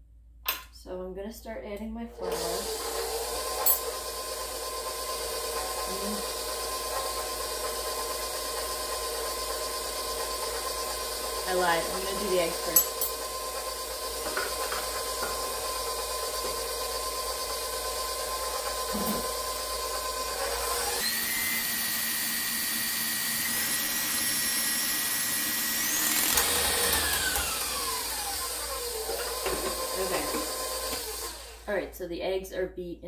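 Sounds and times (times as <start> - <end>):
stand mixer motor whining: 2.2 - 31.7.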